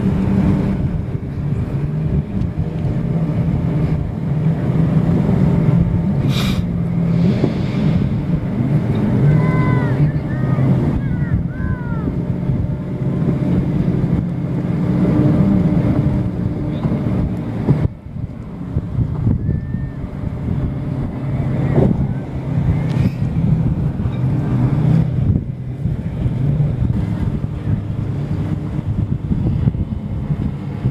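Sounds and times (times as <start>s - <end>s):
motorboat engine running: 0.0s - 30.9s
wind buffeting microphone: 0.0s - 30.9s.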